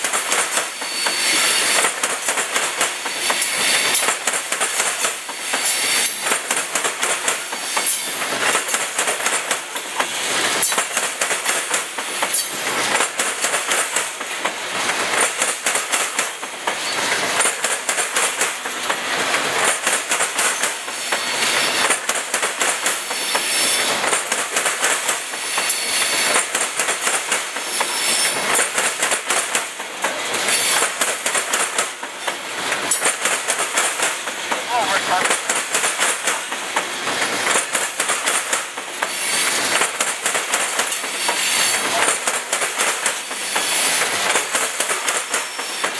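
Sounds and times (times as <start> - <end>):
train wheels clanking over rail joints: 0.0 - 45.9.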